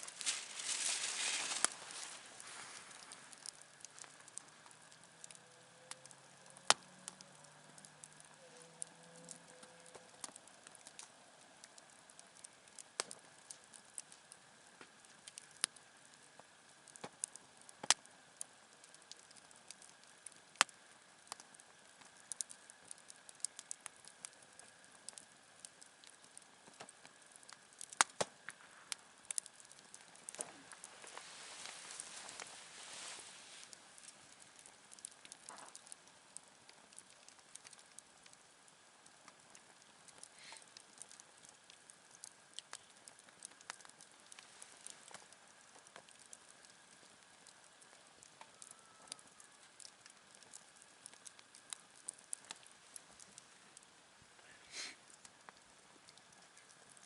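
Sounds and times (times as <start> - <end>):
campfire crackling: 0.0 - 57.0
sharp pops and snaps of fire: 0.0 - 57.0.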